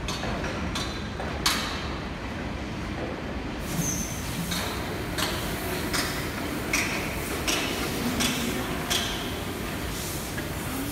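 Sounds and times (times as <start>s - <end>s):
factory hall noise: 0.0s - 10.9s.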